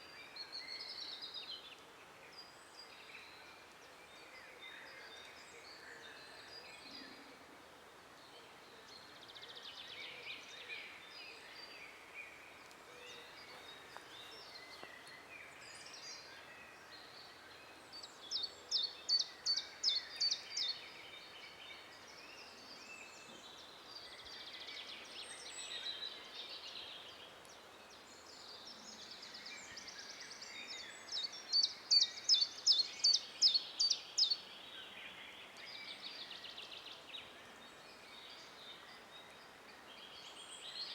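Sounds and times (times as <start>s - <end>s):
background hiss: 0.0s - 40.9s
songbirds singing: 8.1s - 40.9s.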